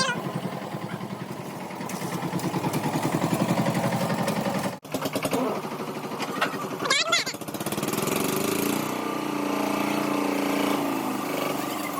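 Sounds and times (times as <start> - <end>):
engine chugging: 0.0 - 11.9.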